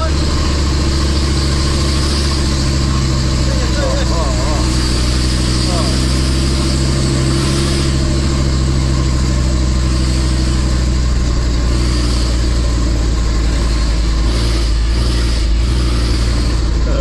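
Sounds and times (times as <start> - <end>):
diesel engine pulling under load: 0.0 - 17.0.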